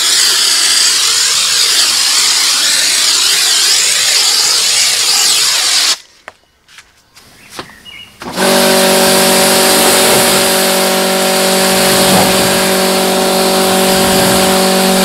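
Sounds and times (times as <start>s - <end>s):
pressure washer spray hissing: 0.0s - 6.1s, 8.4s - 15.0s.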